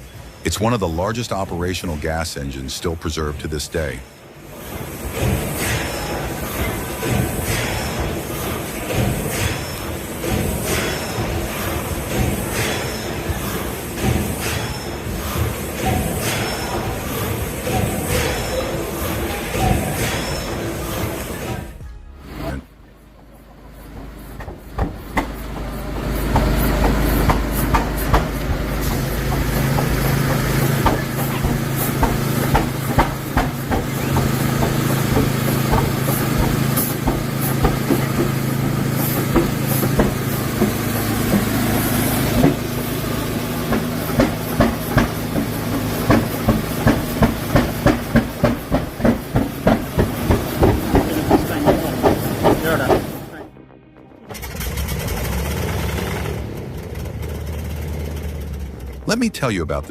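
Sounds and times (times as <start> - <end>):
engine hissing: 0.0 - 53.6, 54.2 - 59.9
stationary gas engine running: 4.6 - 21.5, 24.0 - 53.5, 54.3 - 59.2.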